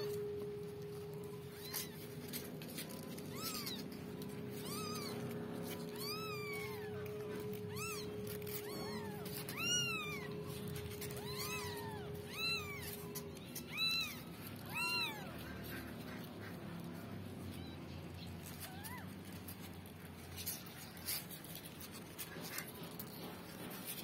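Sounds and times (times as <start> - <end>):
kittens mewing: 0.0 - 24.0.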